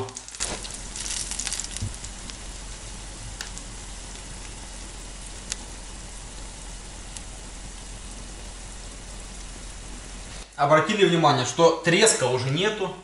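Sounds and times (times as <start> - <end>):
dumplings sizzling in oil: 0.0 - 10.6.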